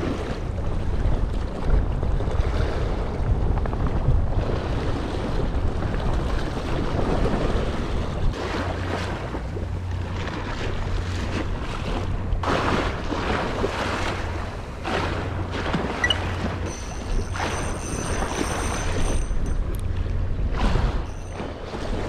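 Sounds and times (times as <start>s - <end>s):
waves washing against rocks: 0.0s - 19.5s
wind rumbling on microphone: 0.0s - 22.0s.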